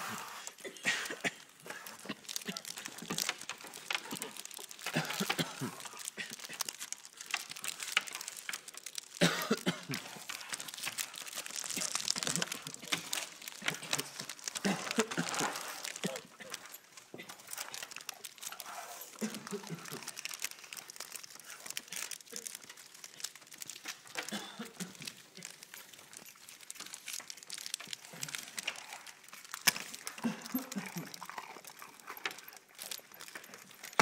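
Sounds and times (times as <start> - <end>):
cardboard box crinkling and rustling: 1.4 - 34.0.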